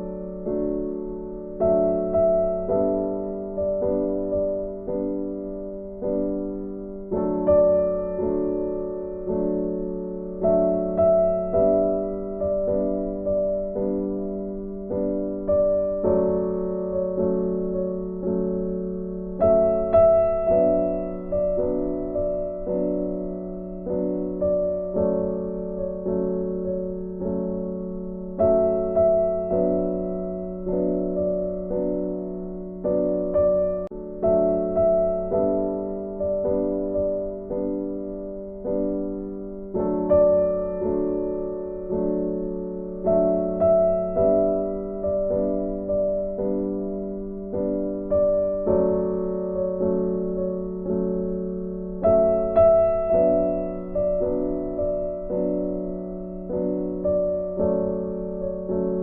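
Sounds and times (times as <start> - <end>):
slow gentle piano music: 0.0 - 59.0.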